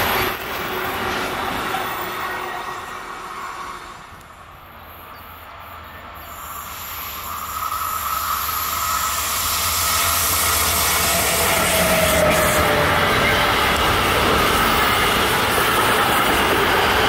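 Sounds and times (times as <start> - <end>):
freight train rumble: 0.0 - 17.0
thin train whine: 0.0 - 17.0.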